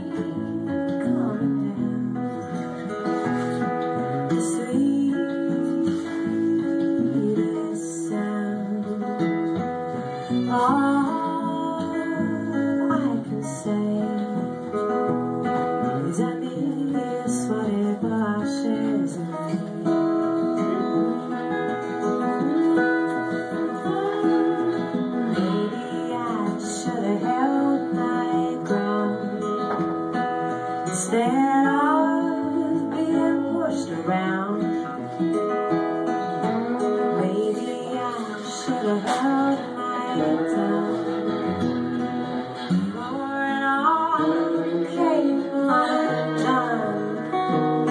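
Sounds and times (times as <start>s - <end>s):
acoustic guitars playing: 0.0s - 47.9s
person singing: 0.0s - 47.9s.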